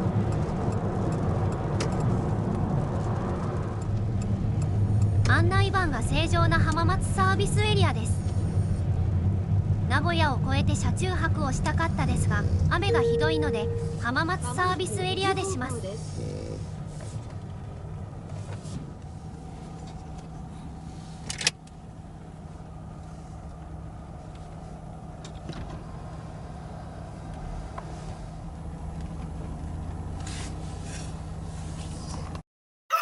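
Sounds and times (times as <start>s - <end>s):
vehicle engine idling: 0.0s - 32.4s.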